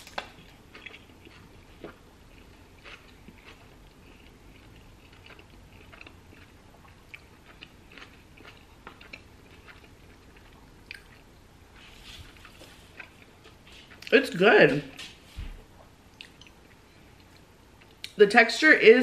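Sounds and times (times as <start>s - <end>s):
person chewing with mouth smacks: 0.0s - 14.2s, 14.9s - 18.2s.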